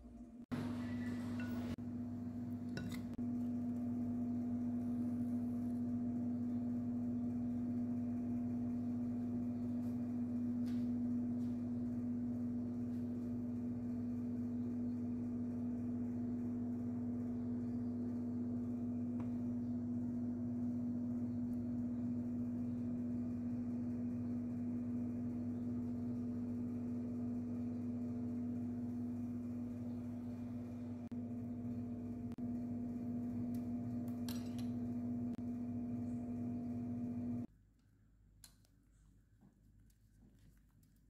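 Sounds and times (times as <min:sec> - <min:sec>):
steady low hum: 0:00.0 - 0:37.5.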